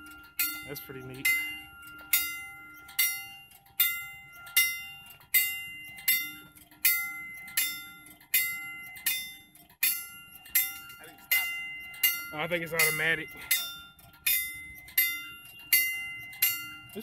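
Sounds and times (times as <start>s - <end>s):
crossing signal bell ringing: 0.0s - 17.0s.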